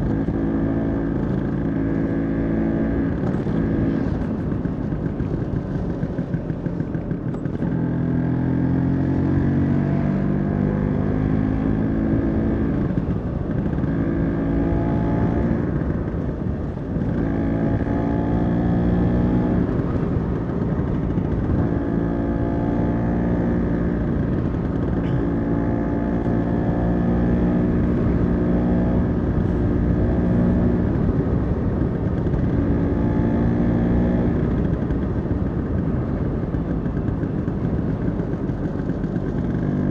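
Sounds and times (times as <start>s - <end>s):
scooter engine running: 0.0s - 39.9s
wind and road noise: 0.0s - 39.9s.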